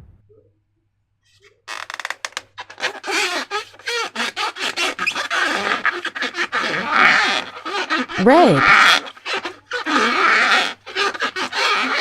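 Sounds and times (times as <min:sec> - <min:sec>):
rubber balloon squeaking: 0:01.3 - 0:12.0.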